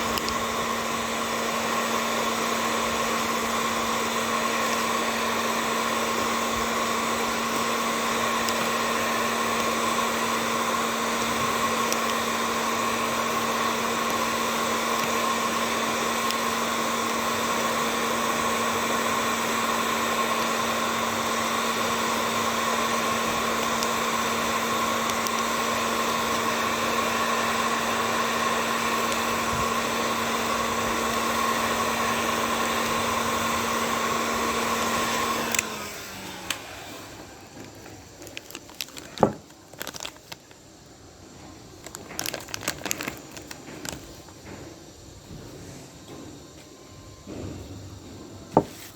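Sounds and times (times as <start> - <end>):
small electric motor humming: 0.0 - 40.4.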